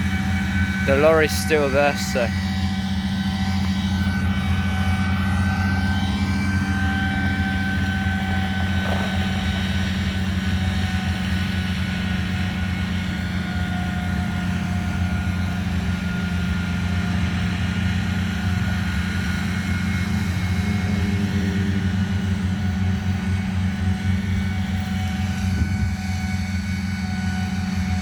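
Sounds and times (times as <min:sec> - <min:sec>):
faint high whine: 0:00.0 - 0:28.0
heavy engine droning: 0:00.0 - 0:28.0.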